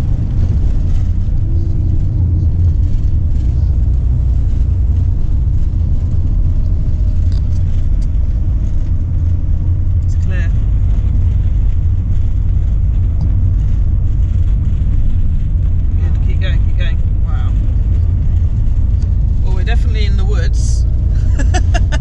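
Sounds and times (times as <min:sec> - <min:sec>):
engine and tyres rumbling: 0:00.0 - 0:22.0.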